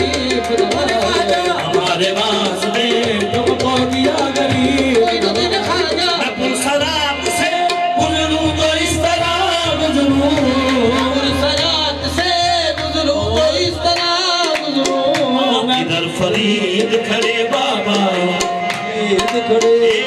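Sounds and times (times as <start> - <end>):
harmonium: 0.0 - 20.0
tabla beat: 0.0 - 20.0
voices singing: 0.0 - 20.0.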